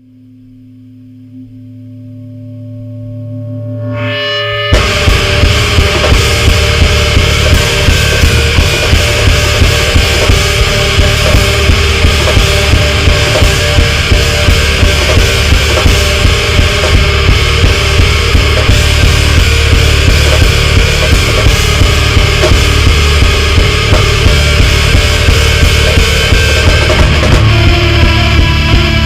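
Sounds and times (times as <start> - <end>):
sustained intro tone: 0.0 - 29.0
heavy metal band playing: 3.8 - 29.0.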